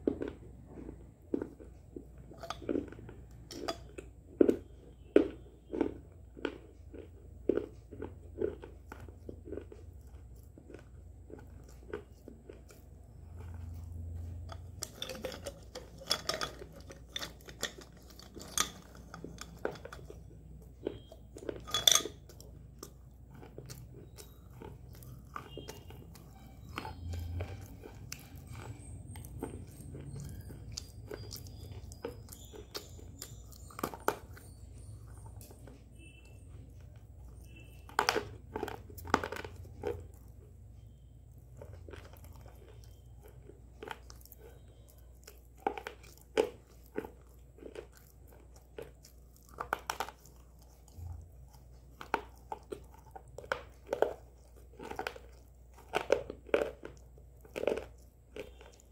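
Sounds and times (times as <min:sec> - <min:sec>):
person chewing: 0:00.0 - 0:58.9.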